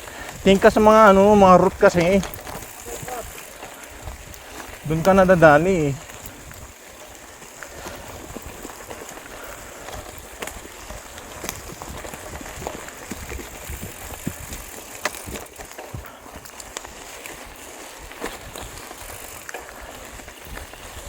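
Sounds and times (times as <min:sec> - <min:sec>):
bike rattling over bumps: 0:00.0 - 0:21.0
bike tyres on dirt: 0:00.0 - 0:21.0.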